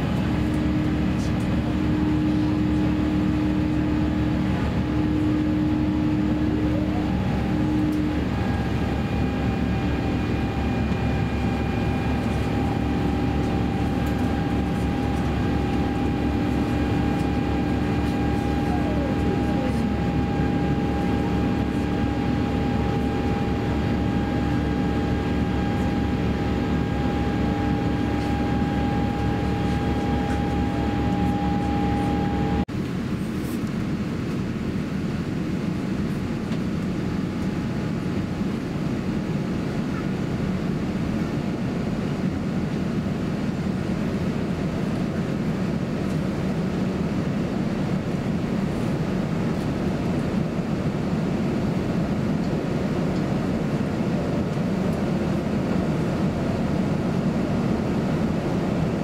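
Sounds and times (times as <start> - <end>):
jet engines and airflow roaring: 0.0 - 59.0.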